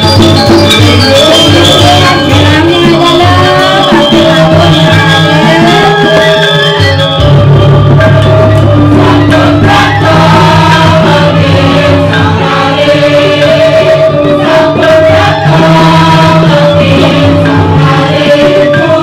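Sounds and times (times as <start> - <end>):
gamelan accompaniment: 0.0 - 19.0
person singing into a microphone: 0.0 - 19.0.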